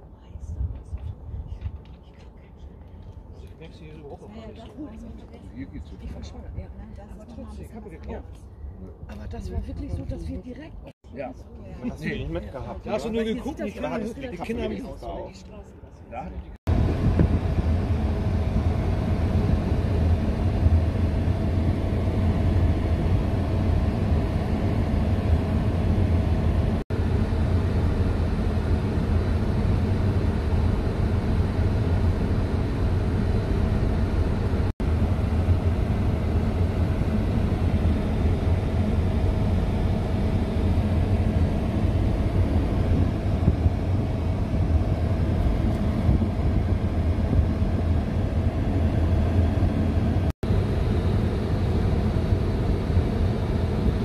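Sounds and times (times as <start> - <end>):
faint constant hum: 0.0 - 54.0.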